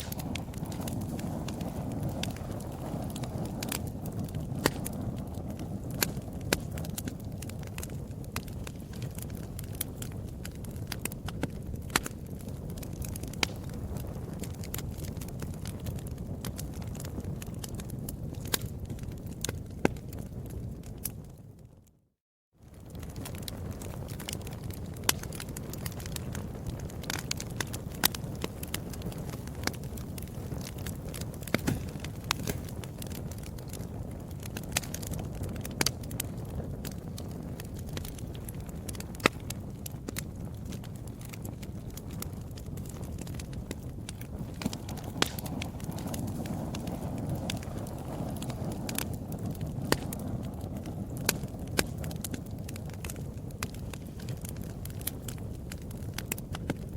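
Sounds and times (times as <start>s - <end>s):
loud fire pops: 0.0s - 21.6s, 22.6s - 56.9s
wood fire crackling: 0.0s - 21.9s, 22.6s - 56.9s
low rumble of flames: 0.0s - 56.9s.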